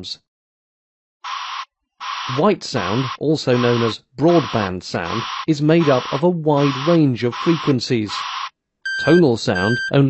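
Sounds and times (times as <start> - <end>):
white noise reversing alarm pulse: 1.2 - 9.9.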